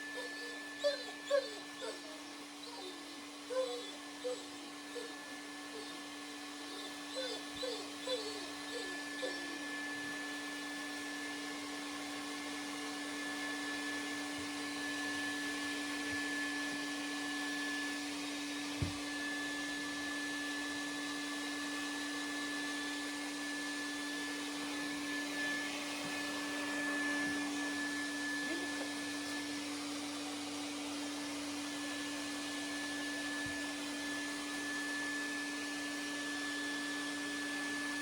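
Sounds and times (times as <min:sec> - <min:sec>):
pet dryer blowing air: 0:00.0 - 0:38.0.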